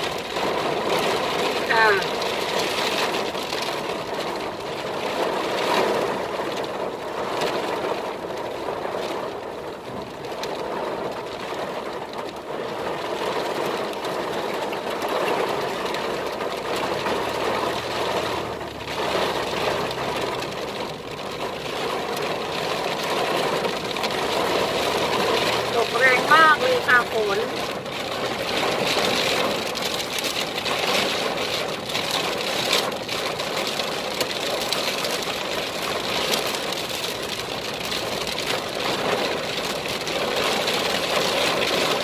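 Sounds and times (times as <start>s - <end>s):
heavy rain on car roof: 0.0s - 42.0s.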